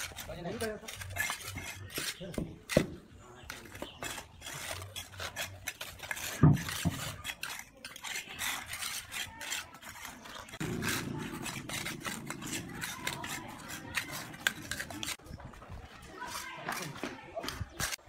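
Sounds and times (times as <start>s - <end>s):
trowel scraping wet mortar: 0.0s - 15.4s, 16.1s - 18.0s.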